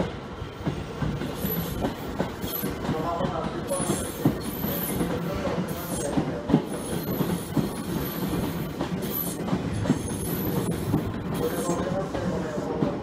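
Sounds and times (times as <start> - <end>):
electric train rolling past: 0.0 - 13.0.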